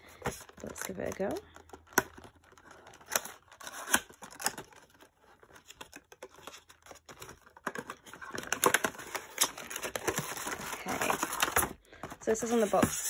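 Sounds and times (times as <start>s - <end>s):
wrapping paper crinkling: 0.4s - 11.8s.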